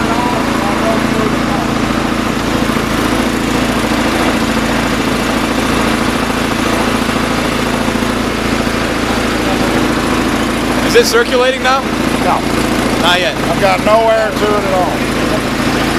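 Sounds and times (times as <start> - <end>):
small gasoline engine running: 0.0 - 15.9.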